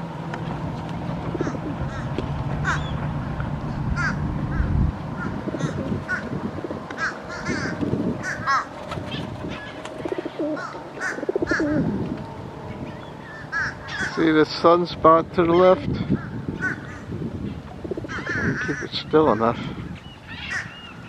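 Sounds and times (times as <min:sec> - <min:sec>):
steady low hum: 0:00.0 - 0:18.8
birds calling and cawing: 0:00.0 - 0:21.0
birds cooing: 0:00.9 - 0:14.4, 0:15.6 - 0:21.0.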